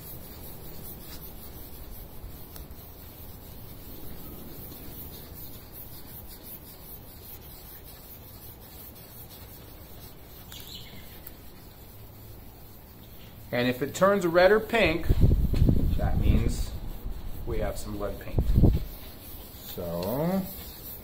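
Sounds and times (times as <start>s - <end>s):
swab rubbing on painted metal: 0.0s - 21.0s.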